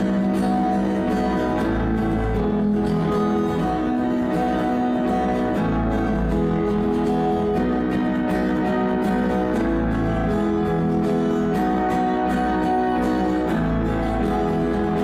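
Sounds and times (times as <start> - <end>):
steady bass: 0.0 - 15.0
strummed guitar chords: 0.0 - 15.0.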